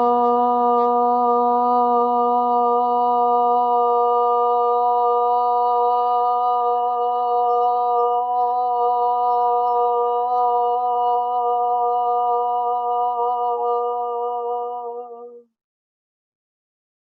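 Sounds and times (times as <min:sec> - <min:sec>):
person chanting long ah: 0:00.0 - 0:15.4.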